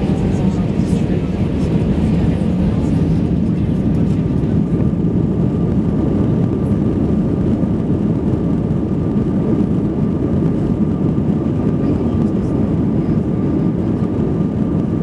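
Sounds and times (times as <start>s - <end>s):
aircraft cabin rumble: 0.0s - 15.0s
faint steady whine: 0.0s - 15.0s.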